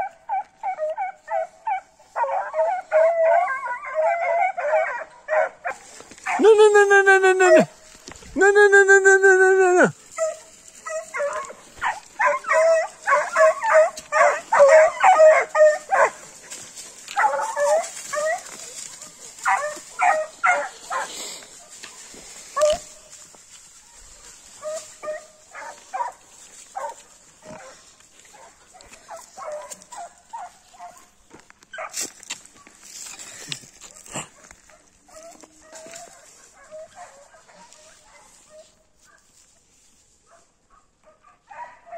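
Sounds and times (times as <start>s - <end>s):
hounds barking in high yelps: 0.0s - 7.8s, 8.5s - 32.7s, 33.9s - 39.4s, 40.2s - 41.9s.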